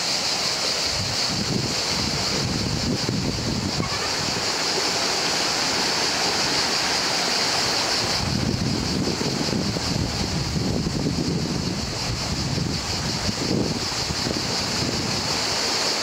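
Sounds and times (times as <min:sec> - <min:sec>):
river water running over stones: 0:00.0 - 0:16.0
wind buffeting microphone: 0:00.9 - 0:15.8.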